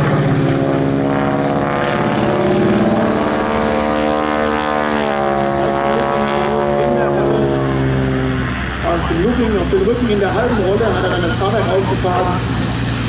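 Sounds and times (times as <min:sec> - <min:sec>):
propeller plane engine in flight: 0:00.0 - 0:13.0.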